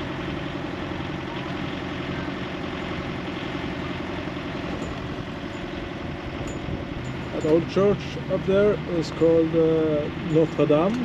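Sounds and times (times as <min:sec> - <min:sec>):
boat engine running steadily: 0:00.0 - 0:11.0.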